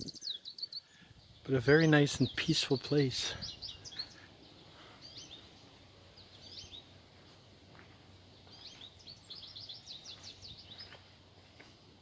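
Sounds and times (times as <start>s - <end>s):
small songbird singing: 0.0s - 7.3s, 8.1s - 11.2s.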